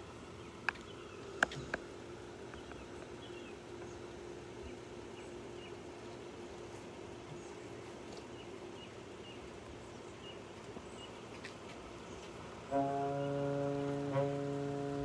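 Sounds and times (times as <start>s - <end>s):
small birds chirping faintly: 0.0s - 15.0s.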